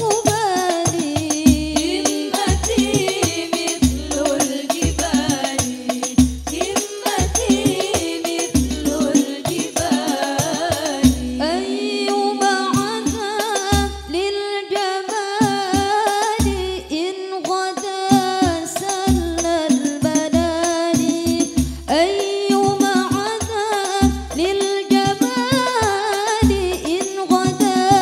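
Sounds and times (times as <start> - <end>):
frame drums beat: 0.0 - 14.3, 15.1 - 16.8, 17.8 - 28.0
women singing devotional song: 0.0 - 28.0.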